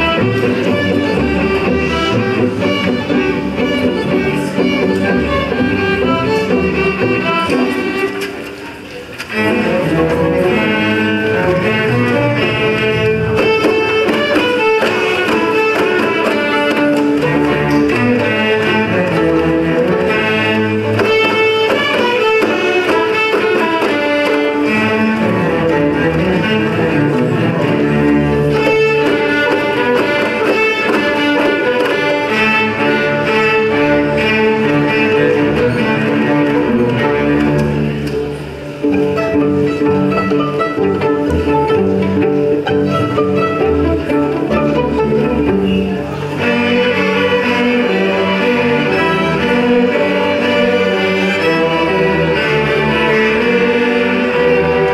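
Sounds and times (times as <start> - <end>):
string orchestra playing: 0.0 - 54.9.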